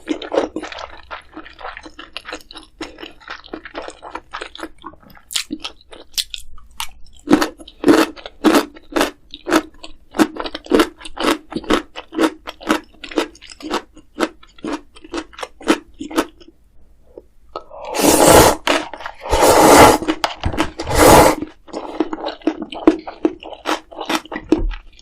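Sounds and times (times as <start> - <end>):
chewing crunchy food: 0.0 - 16.6, 18.6 - 25.0.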